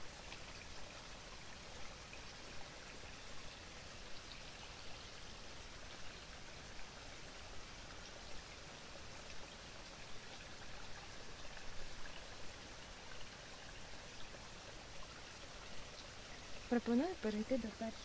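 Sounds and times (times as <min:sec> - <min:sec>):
faint outdoor background hiss: 0:00.0 - 0:18.0.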